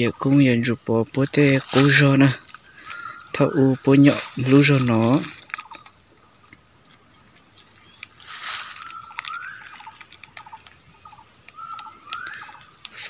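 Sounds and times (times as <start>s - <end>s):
bird calling: 0.0s - 13.0s
twigs and leaves crackling: 0.0s - 13.0s.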